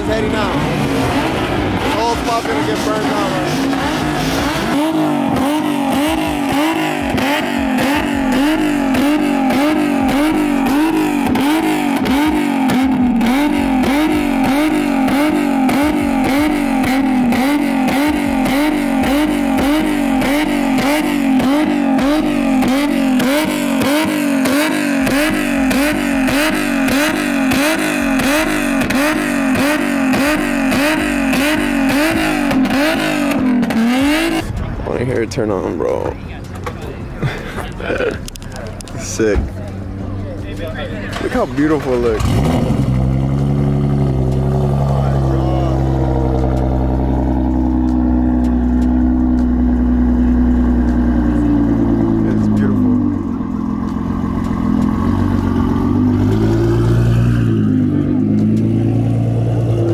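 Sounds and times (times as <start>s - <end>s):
car engine through loud exhaust: 0.0s - 59.9s.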